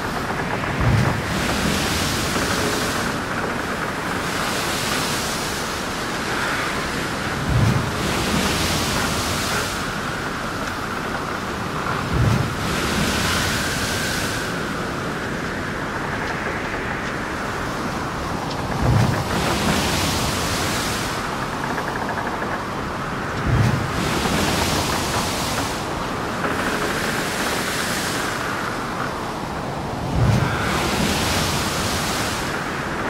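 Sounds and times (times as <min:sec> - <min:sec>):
waves breaking and washing in: 0:00.0 - 0:33.0.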